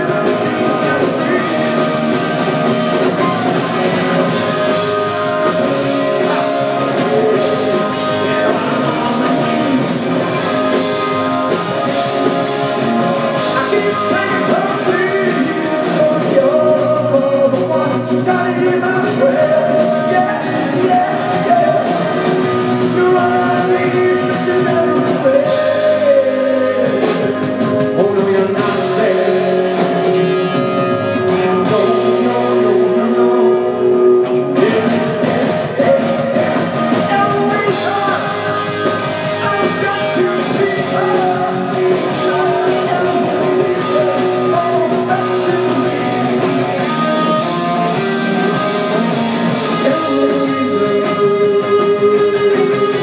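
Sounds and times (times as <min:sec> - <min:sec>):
live rock band playing: 0:00.0 - 0:53.0
man singing lead vocal: 0:00.0 - 0:53.0.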